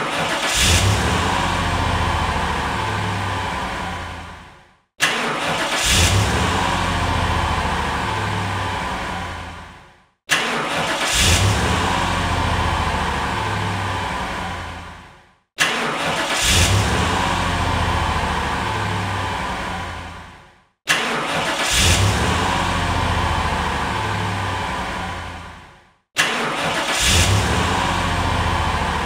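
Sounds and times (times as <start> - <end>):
car engine starting: 0.0 - 29.0.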